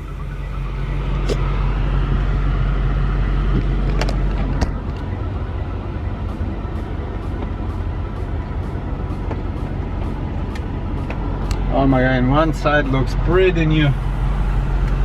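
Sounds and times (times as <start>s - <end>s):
tow vehicle engine running: 0.0s - 15.0s.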